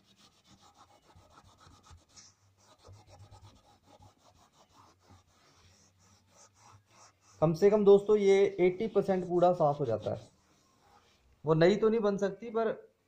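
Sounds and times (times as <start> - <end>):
cloth rubbing on drumhead: 0.0 - 11.4.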